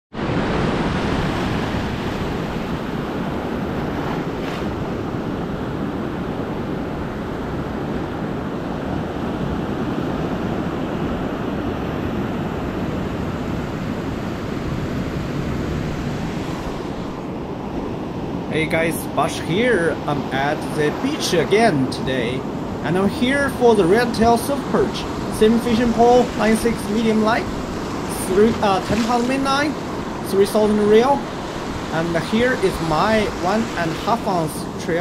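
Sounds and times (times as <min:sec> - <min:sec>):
waves breaking on a beach: 0:00.1 - 0:35.0.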